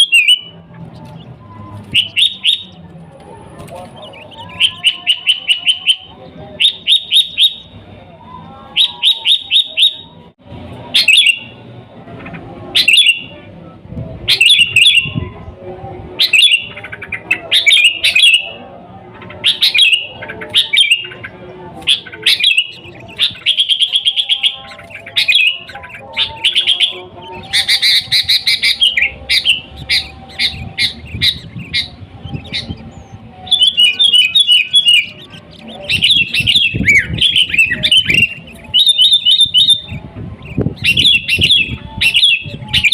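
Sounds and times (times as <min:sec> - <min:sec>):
bulbul singing: 0:00.0 - 0:42.9.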